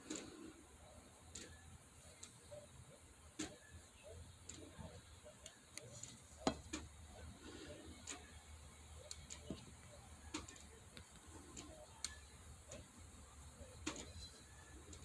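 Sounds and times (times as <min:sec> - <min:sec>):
faint irregular clicks: 0:00.0 - 0:15.0.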